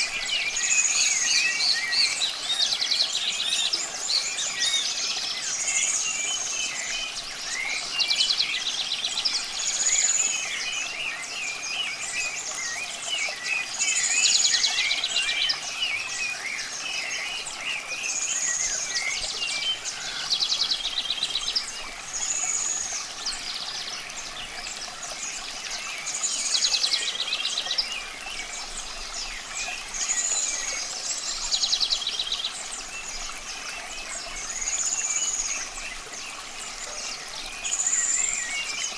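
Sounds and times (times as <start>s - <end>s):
running water hiss: 0.0s - 38.9s
songbirds chirping: 0.0s - 38.9s.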